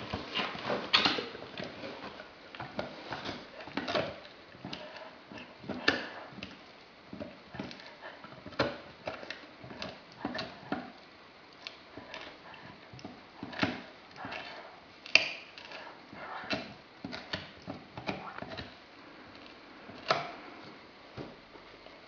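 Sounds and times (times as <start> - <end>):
dog chewing rawhide bone: 0.4 - 20.8.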